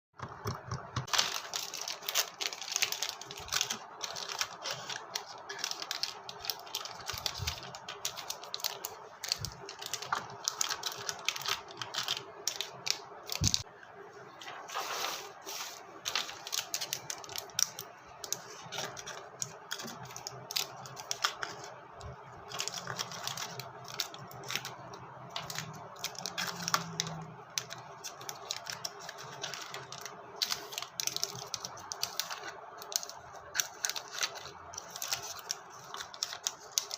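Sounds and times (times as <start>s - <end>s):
candy packets clattering: 0.5s - 13.7s, 14.8s - 36.9s.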